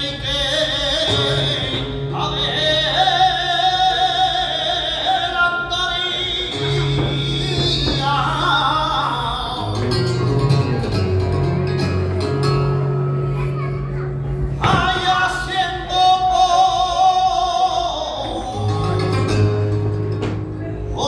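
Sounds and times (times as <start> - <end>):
man singing flamenco: 0.0 - 12.7, 14.5 - 21.0
flamenco guitar: 0.0 - 21.0.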